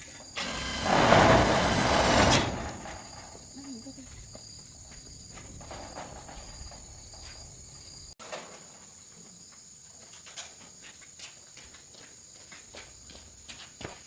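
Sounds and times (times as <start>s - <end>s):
crickets trilling: 0.0s - 13.5s.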